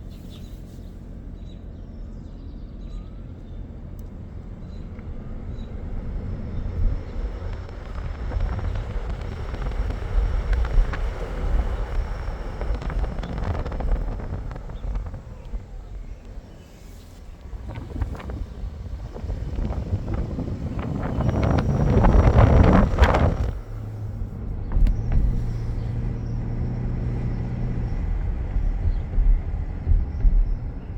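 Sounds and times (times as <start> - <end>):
road noise: 0.0 - 30.9
wind noise through open window: 3.6 - 30.9.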